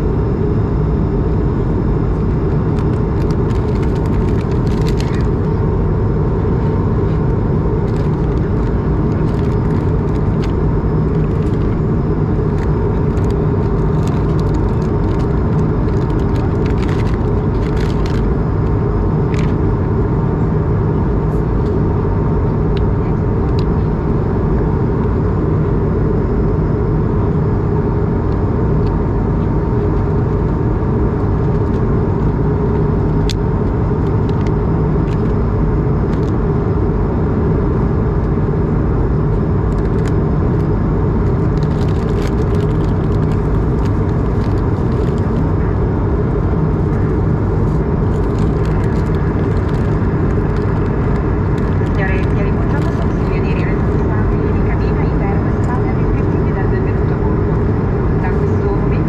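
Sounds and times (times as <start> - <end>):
jet engine drone: 0.0 - 59.0.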